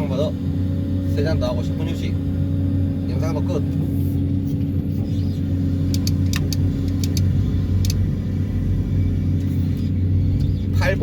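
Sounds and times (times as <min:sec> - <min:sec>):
excavator engine droning: 0:00.0 - 0:11.0.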